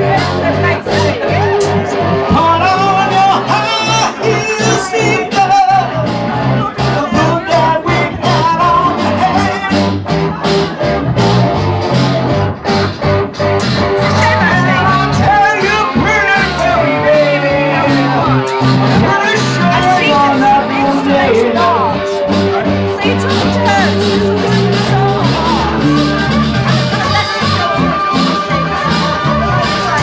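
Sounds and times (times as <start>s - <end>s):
man singing into a microphone: 0.0s - 10.4s, 14.0s - 30.0s
acoustic guitar: 0.0s - 30.0s
bass guitar: 0.0s - 30.0s
electric guitar: 0.0s - 30.0s.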